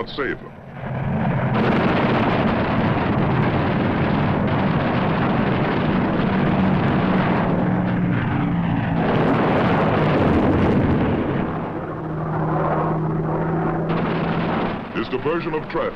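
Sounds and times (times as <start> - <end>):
propeller aircraft engine drone: 0.0 - 15.9.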